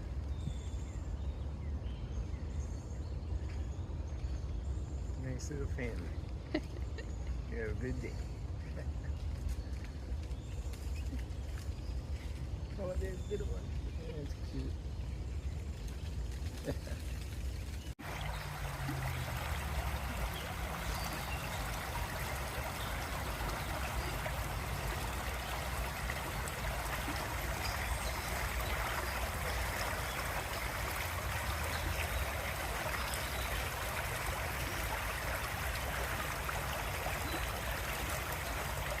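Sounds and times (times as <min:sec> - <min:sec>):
babbling brook flowing: 0:06.8 - 0:39.0.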